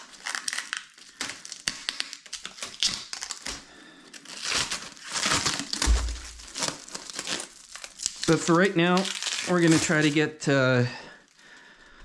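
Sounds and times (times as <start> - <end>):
plastic film crinkling: 0.0 - 10.5.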